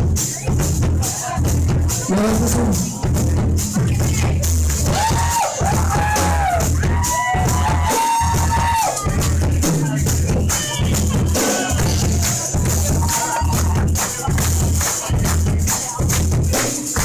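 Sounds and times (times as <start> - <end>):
bass pulse: 0.0 - 16.5.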